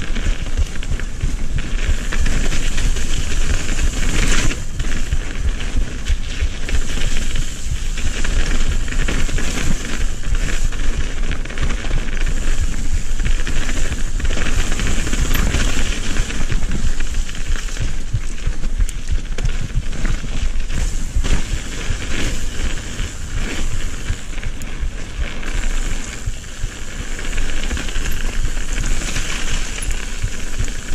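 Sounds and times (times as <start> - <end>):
bike knocking and rattling: 0.0 - 30.9
bike tyres rumbling on dirt: 0.0 - 30.9
wind buffeting microphone: 0.0 - 30.9.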